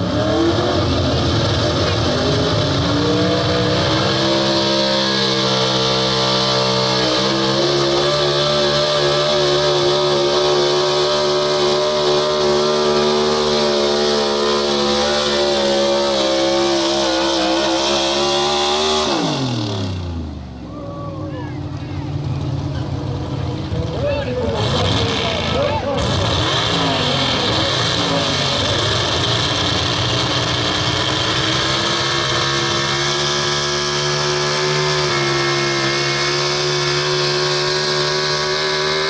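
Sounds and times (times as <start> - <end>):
truck engine at full throttle: 0.0 - 39.0.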